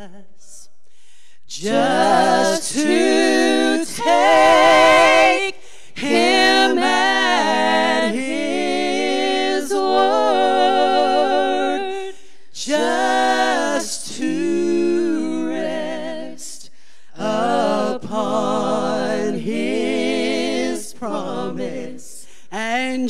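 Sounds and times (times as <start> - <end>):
women singing a hymn: 1.5 - 22.2.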